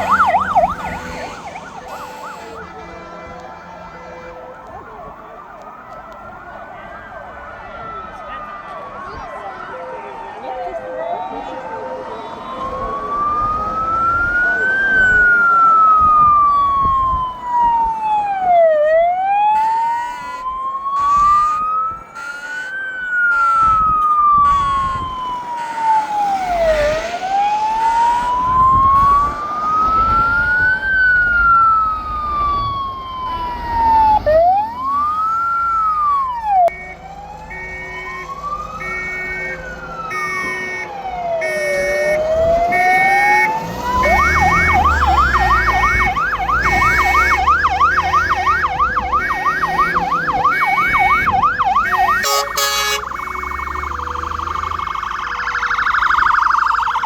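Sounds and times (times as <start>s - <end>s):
fast yelp siren: 0.0s - 57.0s
two-tone hi-lo siren: 0.0s - 57.0s
wailing fire engine sirens: 0.0s - 57.0s.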